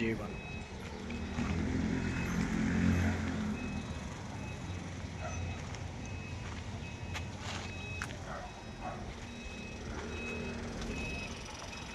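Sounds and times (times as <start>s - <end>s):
reversing alarm beeping: 0.0s - 11.9s
truck diesel engine running: 0.0s - 11.9s.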